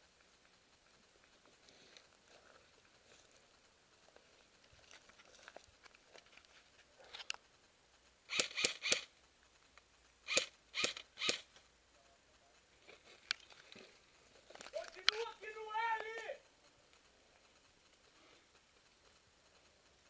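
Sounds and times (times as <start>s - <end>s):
crackling of brush: 0.0s - 20.0s.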